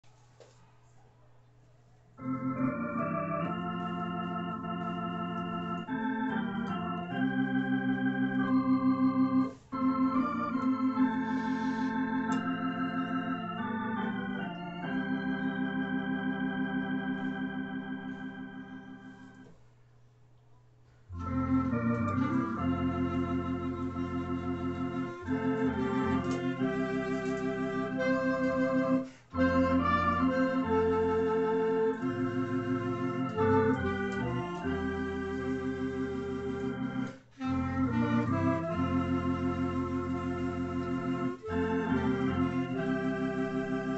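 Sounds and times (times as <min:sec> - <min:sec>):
clarinet playing melody: 0:02.2 - 0:19.4, 0:21.2 - 0:43.9
electronic organ playing hymn: 0:02.2 - 0:19.6, 0:21.1 - 0:43.9.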